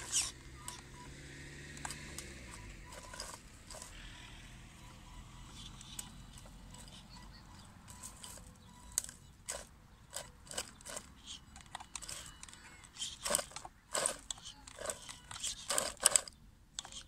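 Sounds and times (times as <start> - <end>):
tyres crunching gravel and brush: 0.0 - 17.0.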